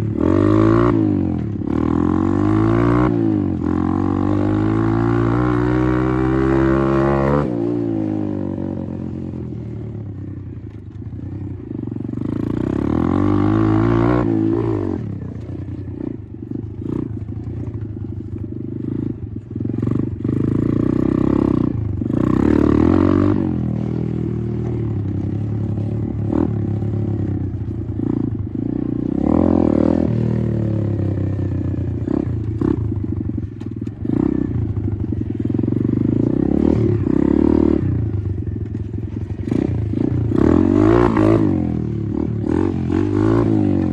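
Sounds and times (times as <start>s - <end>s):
dirt bike engine revving: 0.0s - 9.8s, 11.1s - 43.9s.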